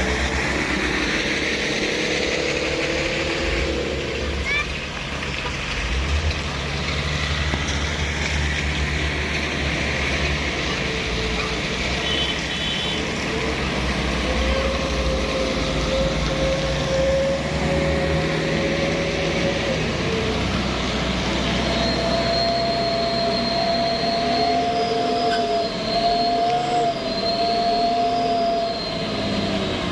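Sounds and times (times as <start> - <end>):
truck diesel engine rumbling: 0.0 - 29.9.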